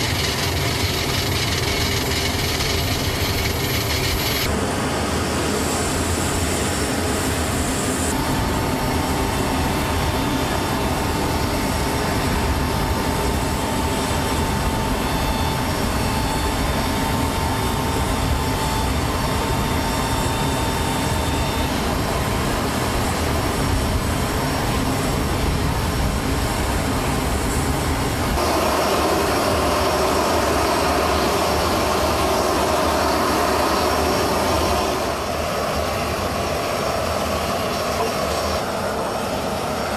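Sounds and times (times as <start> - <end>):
high turbine whine: 0.0 - 39.9
jet turbine rush: 0.0 - 39.9.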